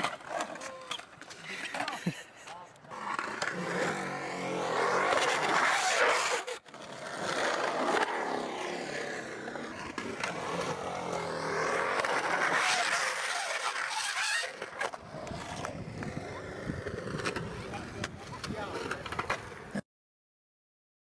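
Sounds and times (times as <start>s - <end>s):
skateboard wheels rolling on concrete: 0.0s - 19.8s.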